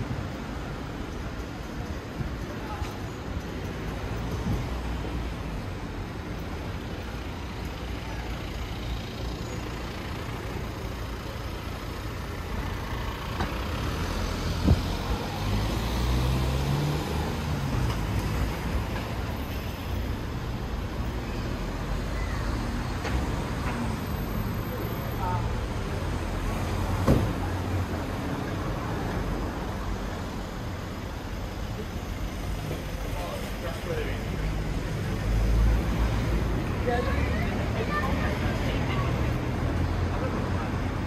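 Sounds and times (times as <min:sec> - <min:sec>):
street traffic rumble: 0:00.0 - 0:41.0
passing vehicle engine hum: 0:03.8 - 0:41.0.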